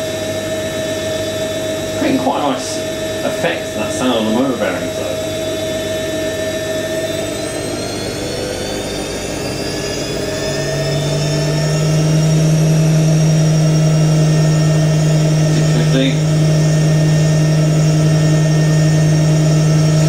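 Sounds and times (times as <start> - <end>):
strong low hum: 0.0 - 20.0
washing machine motor whine: 0.0 - 20.0.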